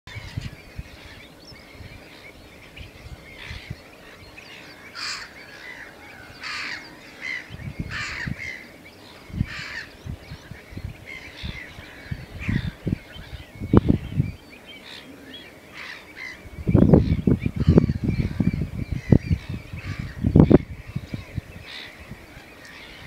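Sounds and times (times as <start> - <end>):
harsh rasping bird calls: 0.1 - 23.0
wind buffeting microphone: 0.1 - 23.0.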